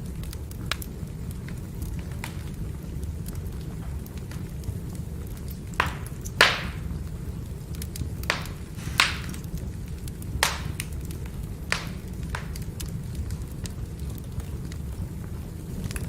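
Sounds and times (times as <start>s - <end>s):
firewood burning and crackling: 0.0s - 16.0s
sharp fire pops: 0.0s - 16.0s.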